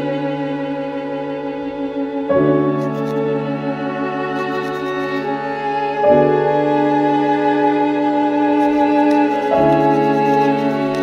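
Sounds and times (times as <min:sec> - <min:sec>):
orchestral film music chords: 0:00.0 - 0:11.0.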